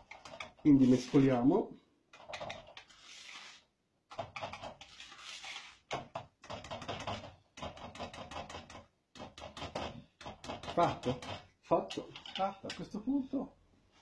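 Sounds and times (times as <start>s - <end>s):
whisk clicking and scraping in bowl: 0.0s - 1.4s, 2.1s - 3.5s, 4.1s - 13.0s.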